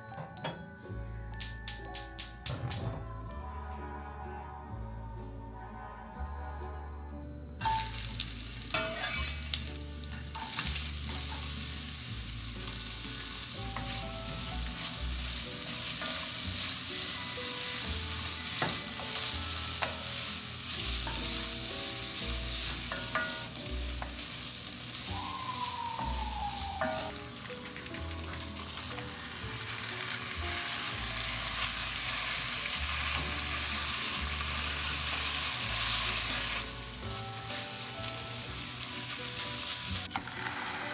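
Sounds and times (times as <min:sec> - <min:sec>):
onion sizzling in a pan: 0:07.6 - 0:40.9.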